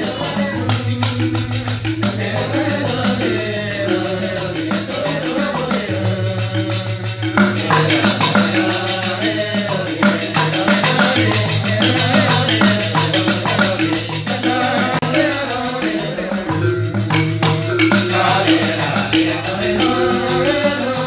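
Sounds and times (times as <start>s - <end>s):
bamboo tube percussion: 0.0s - 21.0s
jingling small cymbals: 0.0s - 21.0s
men singing and chanting: 0.0s - 21.0s.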